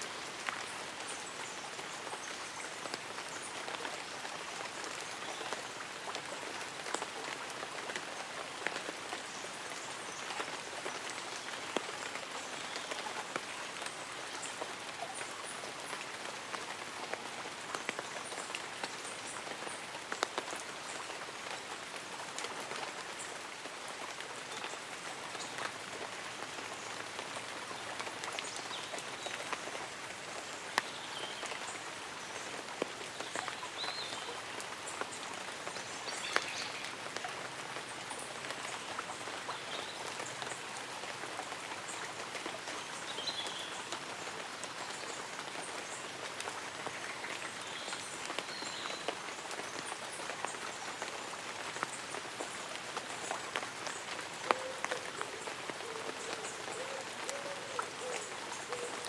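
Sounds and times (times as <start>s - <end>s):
light rain on leaves and umbrella: 0.0s - 59.0s.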